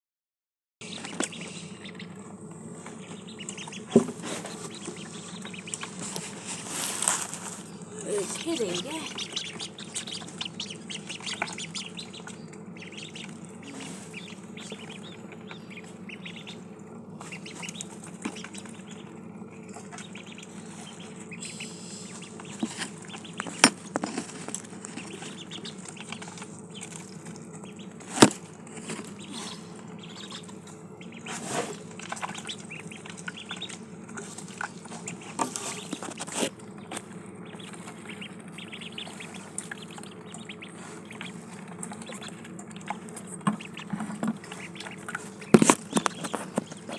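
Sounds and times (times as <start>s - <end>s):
ducklings pecking and dabbling: 0.8s - 46.9s
steady low hum: 0.8s - 46.9s.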